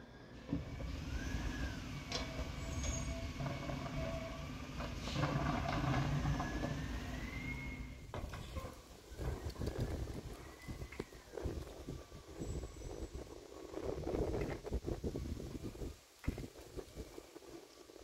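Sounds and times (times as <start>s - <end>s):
garbage truck engine rumble: 0.0s - 16.0s.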